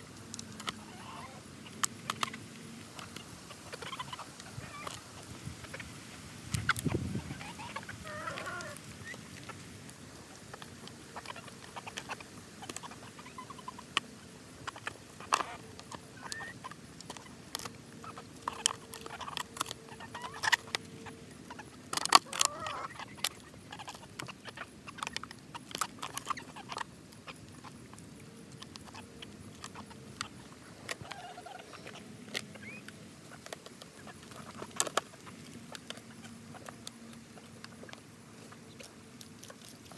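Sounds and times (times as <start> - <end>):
chickens clucking: 0.2 - 39.9.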